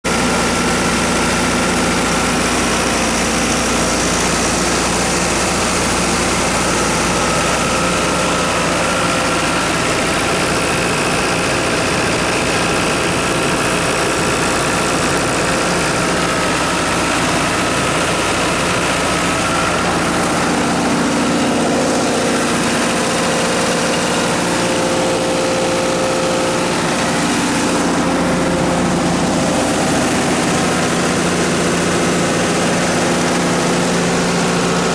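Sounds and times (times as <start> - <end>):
diesel generator running: 0.0 - 34.9.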